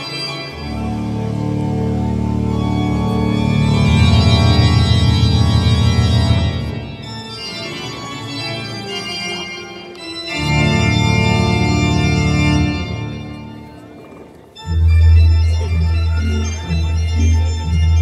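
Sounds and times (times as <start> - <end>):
sustained organ chords: 0.0 - 18.0.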